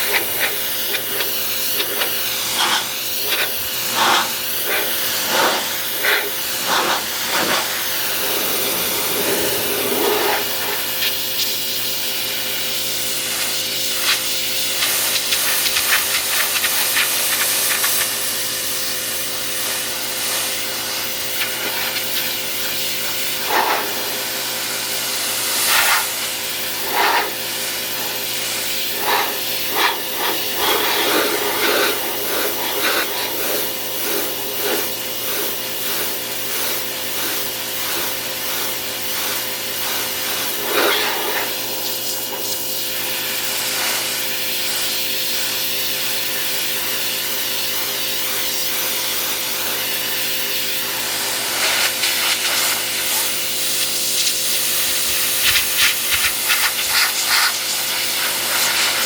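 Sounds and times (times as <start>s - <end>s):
pressure washer humming: 0.0s - 59.0s
pressure washer water jet hissing: 0.0s - 59.0s.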